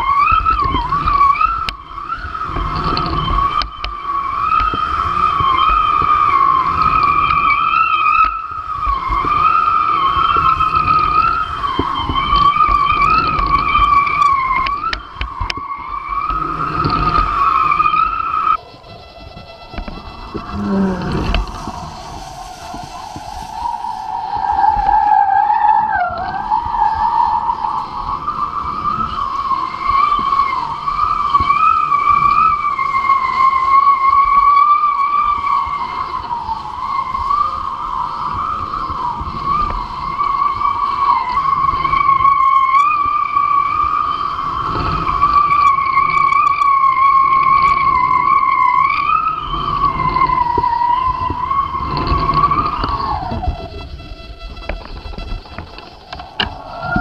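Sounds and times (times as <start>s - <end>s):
hydrofoil high whine: 0.0s - 57.0s
wind rushing on microphone: 0.0s - 57.0s.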